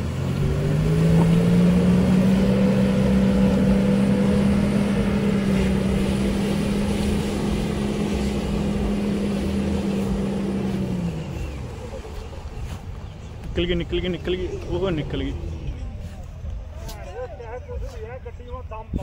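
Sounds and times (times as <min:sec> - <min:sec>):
engine at high revs: 0:00.0 - 0:16.7
wheels churning mud and water: 0:00.0 - 0:19.0.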